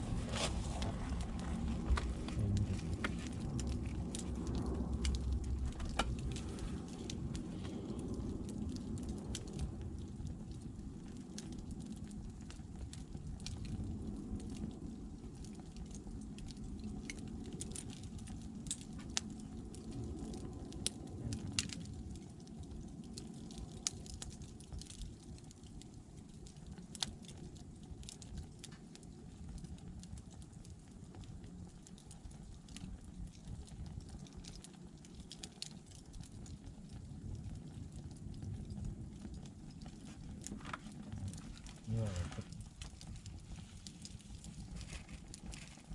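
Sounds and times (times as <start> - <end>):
logs burning with crackles and pops: 0.0 - 45.9
low fire rumble: 0.0 - 45.9.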